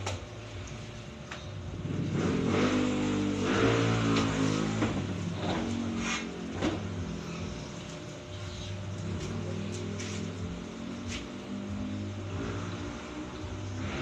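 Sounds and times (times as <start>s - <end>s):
steady low hum: 0.0s - 14.0s
vehicle engine revving: 1.6s - 14.0s.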